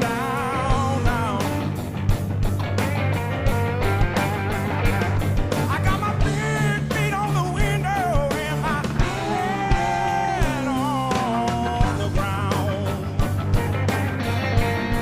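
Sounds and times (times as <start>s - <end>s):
bass guitar: 0.0s - 15.0s
drums: 0.0s - 15.0s
lead electric guitar: 0.0s - 15.0s.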